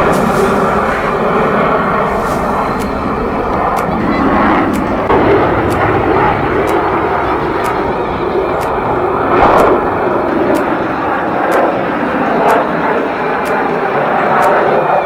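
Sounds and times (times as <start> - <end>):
aircraft engine rushing: 0.0 - 15.0
faint sharp ticks: 0.0 - 15.0.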